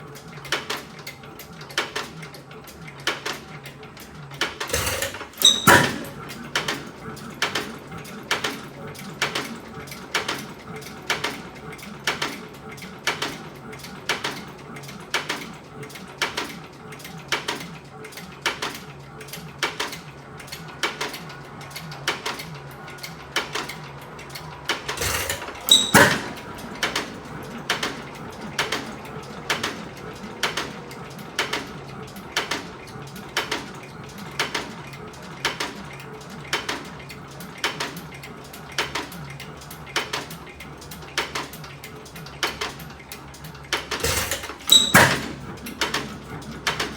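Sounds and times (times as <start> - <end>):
hit-and-miss engine clicking: 0.0 - 46.9.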